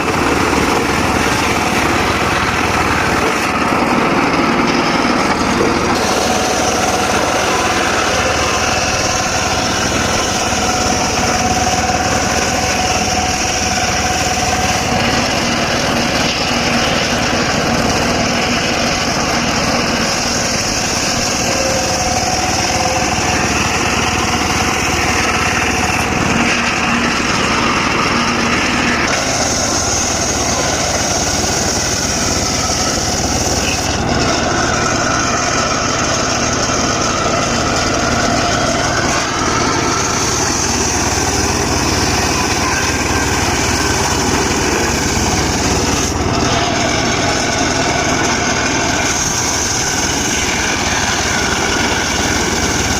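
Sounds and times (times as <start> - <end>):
circular saw cutting wood: 0.0 - 52.9.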